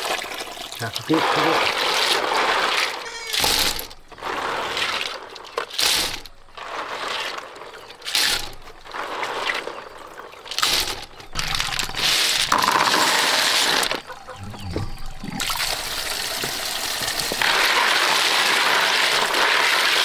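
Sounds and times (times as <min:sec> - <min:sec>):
water splashing and pouring: 0:00.0 - 0:20.0.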